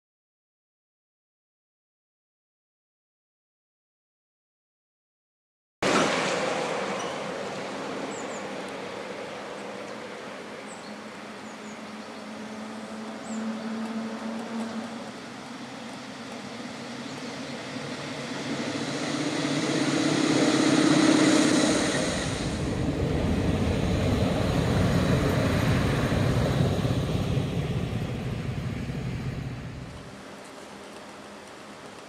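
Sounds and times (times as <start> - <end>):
electric locomotive passing: 5.8 - 32.0
train wheels on rails: 5.8 - 32.0.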